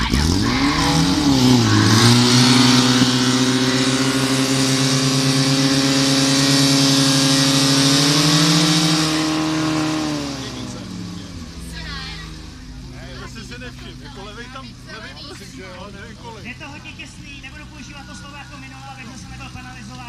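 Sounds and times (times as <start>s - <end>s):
fire pump petrol engine revving: 0.0s - 20.0s.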